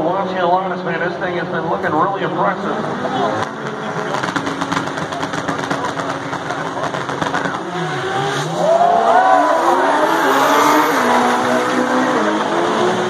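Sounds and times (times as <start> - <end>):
drag racing cars accelerating: 0.0 - 13.0.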